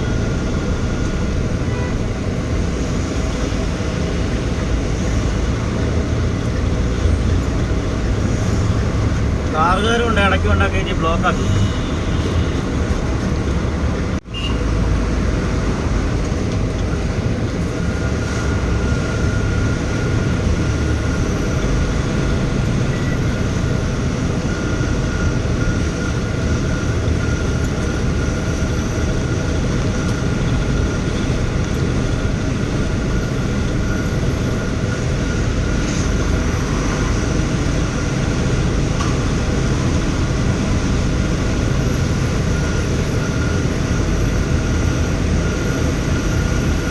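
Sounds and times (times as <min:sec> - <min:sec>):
truck diesel engine from cab: 0:00.0 - 0:46.9.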